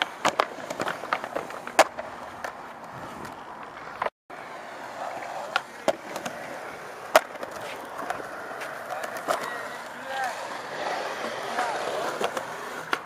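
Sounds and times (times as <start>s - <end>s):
skateboard clacking on ground: 0.0s - 4.1s, 4.8s - 13.0s
skateboard wheels rolling on concrete: 0.0s - 13.0s.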